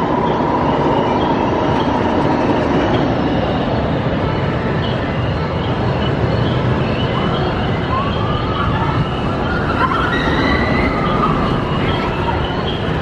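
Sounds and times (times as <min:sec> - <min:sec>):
high wavering whines: 0:00.0 - 0:13.0
ride train rumbling on track: 0:00.0 - 0:13.0.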